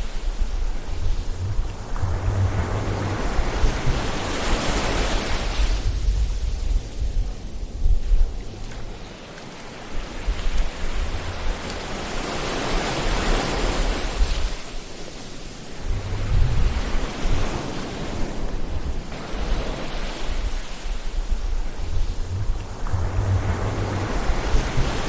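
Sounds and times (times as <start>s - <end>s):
low gusty rumble: 0.0s - 9.2s, 9.9s - 12.3s, 15.7s - 25.0s
ocean waves breaking on shore: 0.0s - 25.0s.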